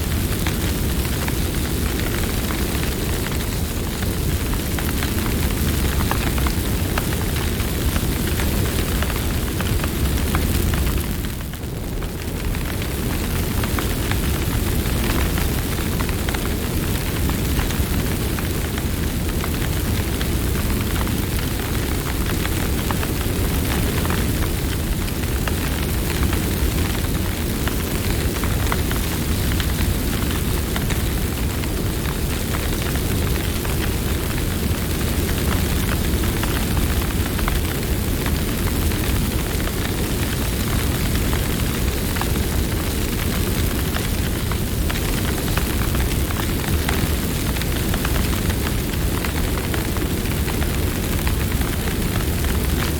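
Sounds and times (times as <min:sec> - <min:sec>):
fire flames rushing: 0:00.0 - 0:52.9
wood crackling and popping: 0:00.0 - 0:52.9.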